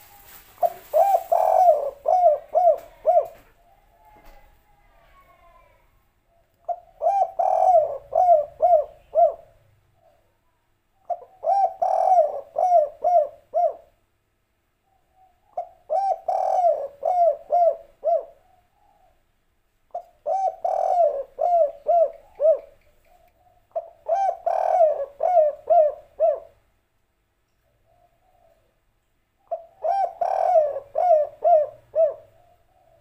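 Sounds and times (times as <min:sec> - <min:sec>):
dove cooing: 0:00.0 - 0:05.8, 0:06.6 - 0:10.3, 0:11.0 - 0:13.9, 0:15.2 - 0:19.2, 0:19.9 - 0:26.6, 0:27.8 - 0:28.8, 0:29.4 - 0:33.0.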